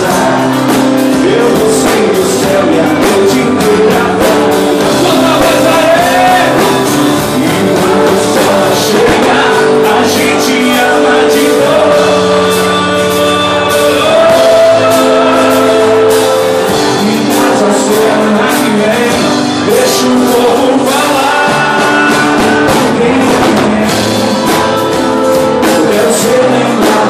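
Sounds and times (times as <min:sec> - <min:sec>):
person singing: 0:00.0 - 0:27.0
steady drum beat: 0:00.0 - 0:27.0
sustained melody lines: 0:00.0 - 0:27.0.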